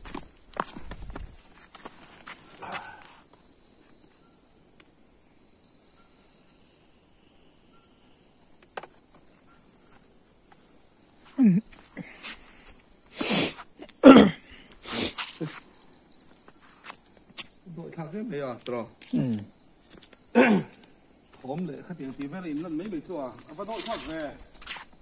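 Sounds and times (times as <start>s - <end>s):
night insects droning: 0.0s - 25.0s.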